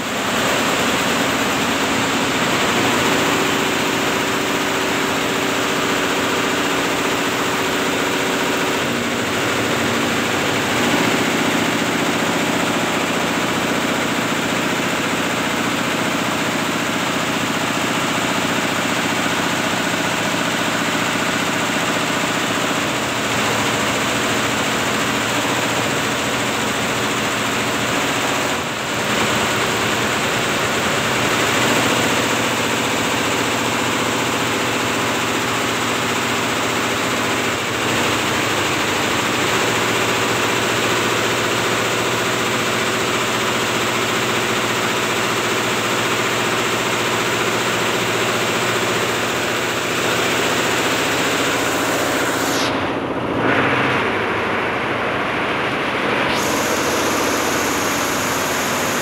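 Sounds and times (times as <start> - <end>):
machine hum: 0.0 - 43.2, 46.1 - 59.0.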